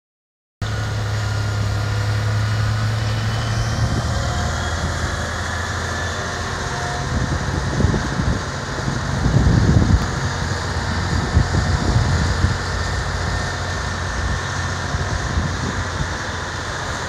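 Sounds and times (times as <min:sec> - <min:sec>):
snowblower engine running: 0:00.6 - 0:17.0.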